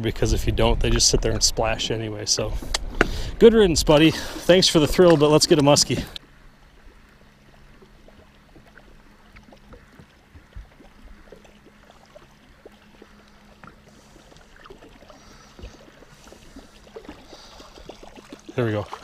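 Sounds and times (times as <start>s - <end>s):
water lapping at boat hull: 2.6s - 19.0s.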